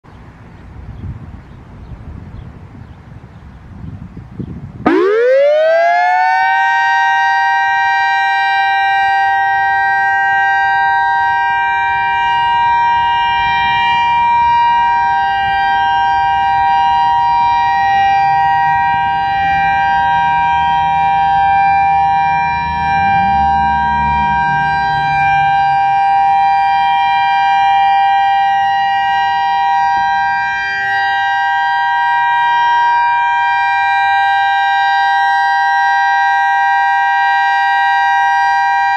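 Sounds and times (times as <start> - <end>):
electronic warning siren: 4.8 - 38.9.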